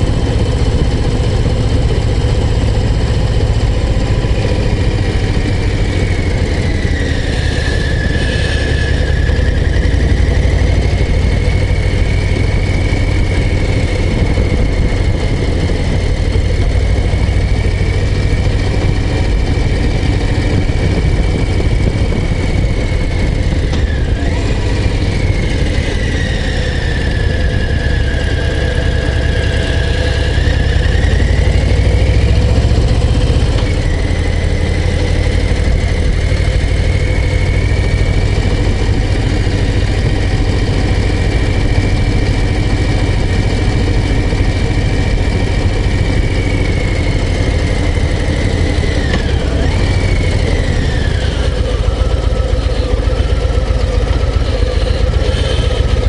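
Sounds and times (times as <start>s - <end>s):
high whine: 0.0s - 56.0s
motorcycle engine running: 0.0s - 56.0s.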